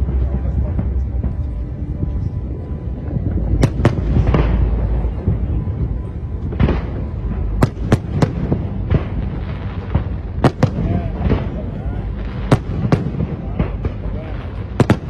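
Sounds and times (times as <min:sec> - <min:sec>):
fireworks bangs crackling: 0:00.0 - 0:15.0
low rumble: 0:00.0 - 0:15.0.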